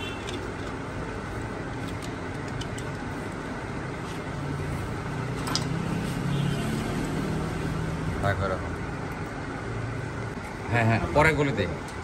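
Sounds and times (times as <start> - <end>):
motor vehicle engine hum: 0.0 - 12.0.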